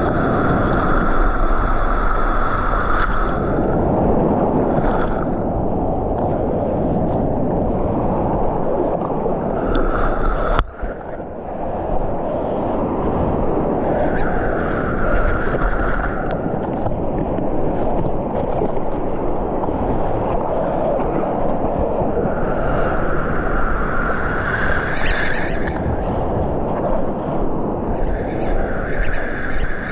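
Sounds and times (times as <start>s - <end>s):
surf washing: 0.0s - 29.9s
wind buffeting microphone: 0.0s - 29.9s.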